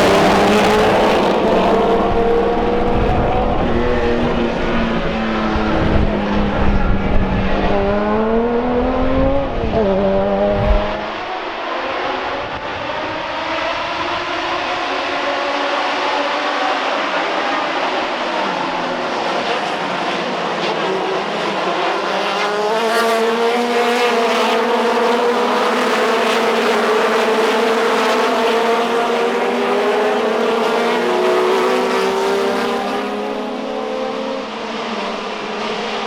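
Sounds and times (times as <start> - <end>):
race cars racing past: 0.0 - 36.0.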